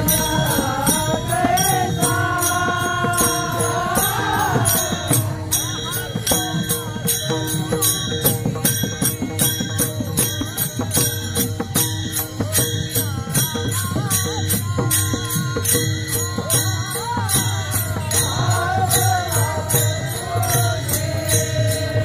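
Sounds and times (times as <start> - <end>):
small hand cymbals: 0.0 - 22.0.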